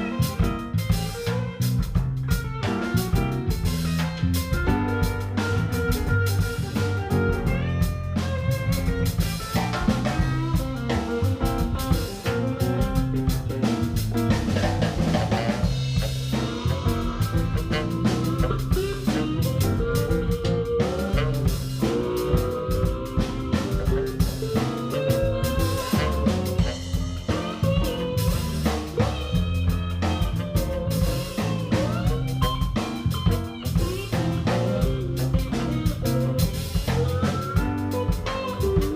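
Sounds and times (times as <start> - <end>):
blues guitar with bent notes: 0.0 - 38.9
drum kit beat: 0.0 - 38.9.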